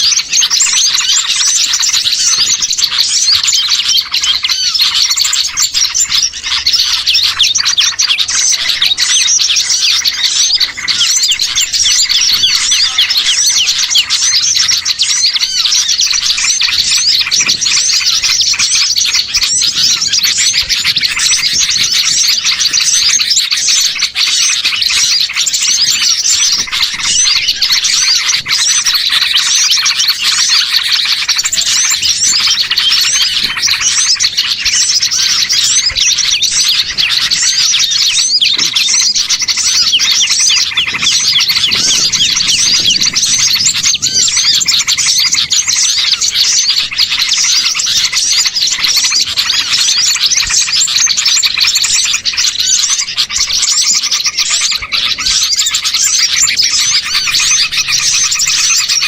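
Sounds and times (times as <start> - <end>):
songbirds chirping and twittering: 0.0 - 59.0.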